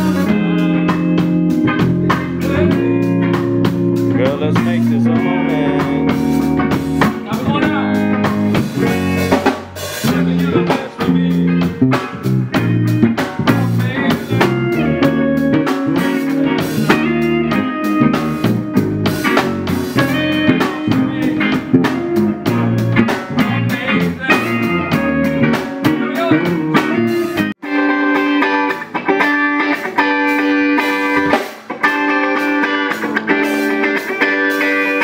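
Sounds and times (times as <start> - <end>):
bass guitar: 0.0 - 35.0
drum kit beat: 0.0 - 35.0
electric guitars: 0.0 - 35.0.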